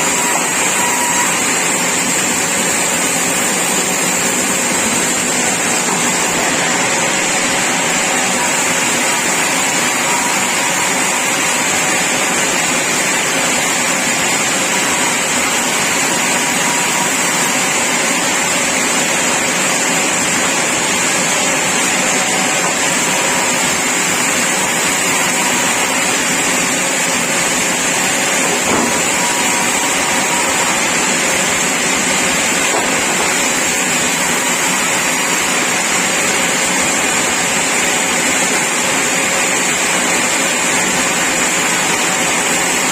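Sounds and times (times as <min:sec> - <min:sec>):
sawmill saw hissing: 0:00.0 - 0:37.0.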